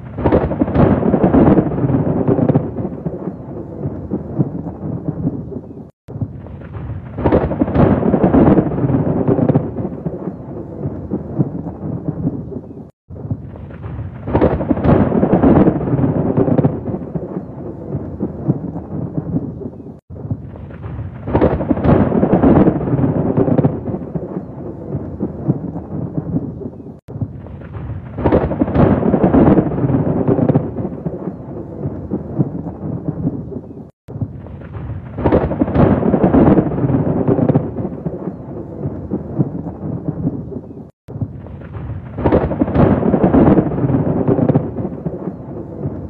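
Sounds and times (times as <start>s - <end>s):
rain: 0.0s - 46.0s
rolling thunder: 0.0s - 46.0s.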